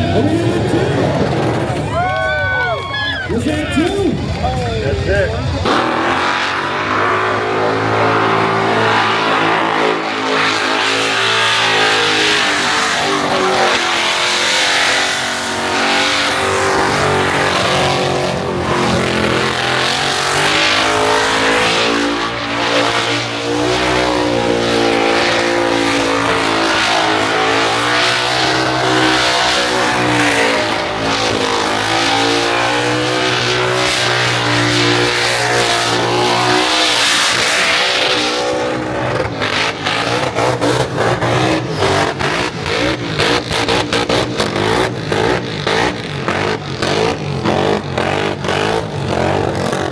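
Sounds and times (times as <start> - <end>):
car engine revving high: 3.3 - 49.9.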